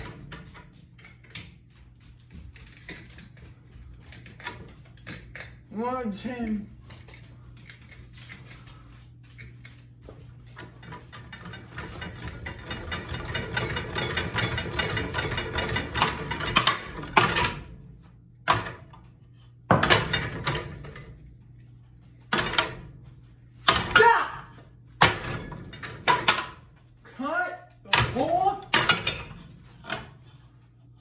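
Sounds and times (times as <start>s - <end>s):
ceiling fan humming and ticking: 0.0s - 31.0s.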